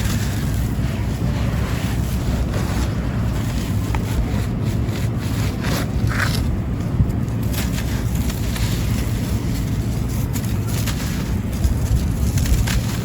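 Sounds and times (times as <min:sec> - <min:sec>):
low rumble: 0:00.0 - 0:13.0
sand-cement crumbling and crunching: 0:00.0 - 0:13.0.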